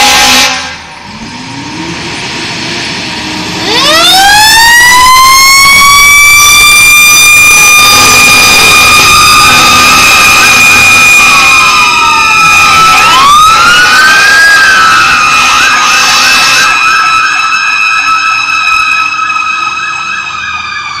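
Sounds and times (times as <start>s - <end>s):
steady high siren tone: 3.5s - 21.0s
wailing and yelping siren: 3.6s - 21.0s.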